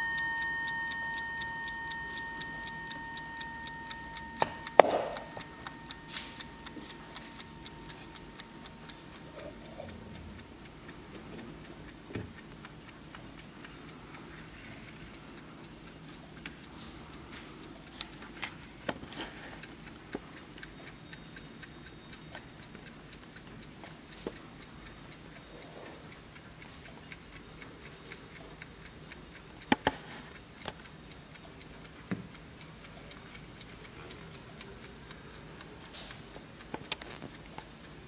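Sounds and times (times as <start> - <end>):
sharp clock clicks: 0.0 - 14.2, 15.1 - 38.0
mantel clock ticking: 0.0 - 38.0.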